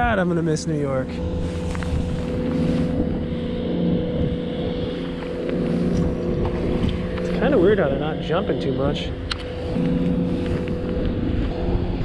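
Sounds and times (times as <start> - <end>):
engine drone: 0.0 - 12.0
wind rumbling on microphone: 0.0 - 12.0.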